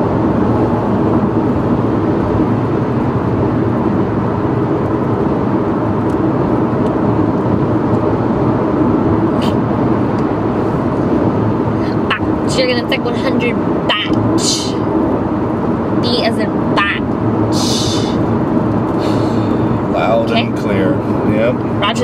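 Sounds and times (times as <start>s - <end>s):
car interior road noise: 0.0s - 22.0s.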